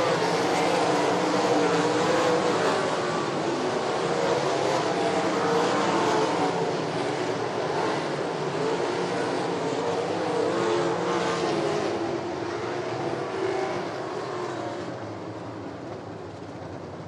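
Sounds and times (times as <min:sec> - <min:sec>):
race car engines at speed: 0:00.0 - 0:17.0.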